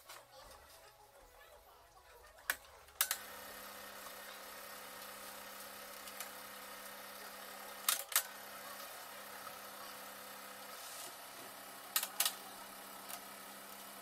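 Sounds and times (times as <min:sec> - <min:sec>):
film projector humming: 0:02.5 - 0:14.0.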